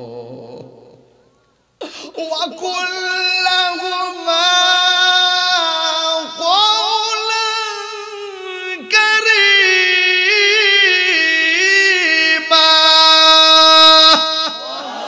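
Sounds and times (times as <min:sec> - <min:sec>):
man singing unaccompanied: 0:00.0 - 0:01.2, 0:01.8 - 0:14.6.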